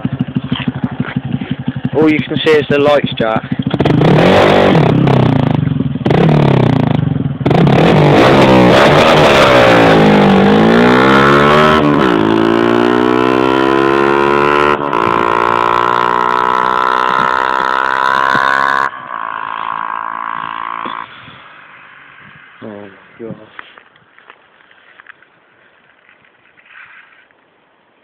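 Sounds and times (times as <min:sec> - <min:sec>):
motorcycle engine revving: 0:00.0 - 0:23.2.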